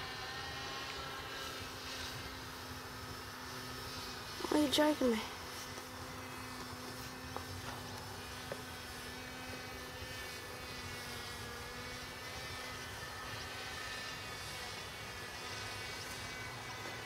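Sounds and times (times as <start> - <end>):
distant paraglider motor droning: 0.0 - 17.0.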